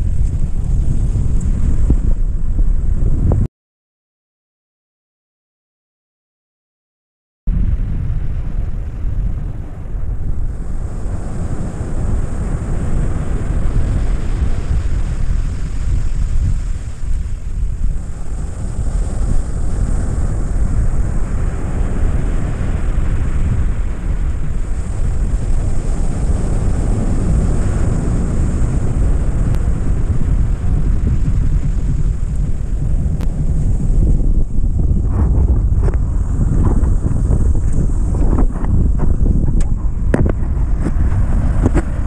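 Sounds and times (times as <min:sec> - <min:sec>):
wind buffeting microphone: 0:00.0 - 0:03.5, 0:07.5 - 0:42.0
surf breaking on beach: 0:07.5 - 0:42.0.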